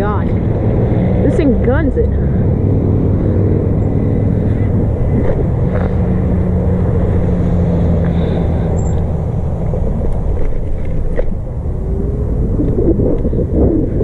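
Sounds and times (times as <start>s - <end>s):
e-bike riding rumble: 0.0s - 14.0s
low steady hum: 0.0s - 14.0s
wind noise: 0.0s - 14.0s.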